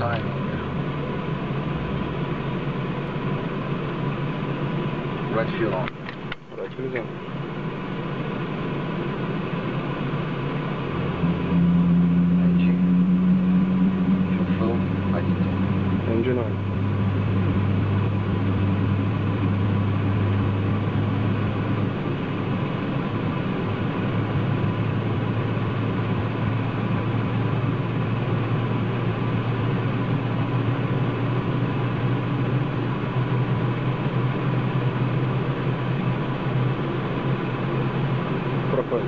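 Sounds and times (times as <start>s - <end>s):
turboprop engine low hum: 0.0s - 39.0s.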